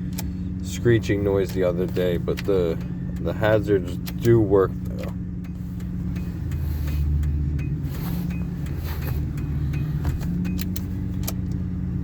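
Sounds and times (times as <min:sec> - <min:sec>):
pickup truck idling: 0:00.0 - 0:12.0.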